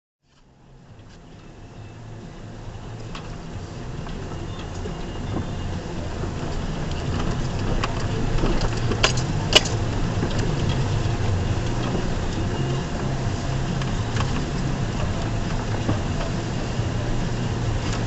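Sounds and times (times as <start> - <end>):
truck engine running: 0.4 - 18.0.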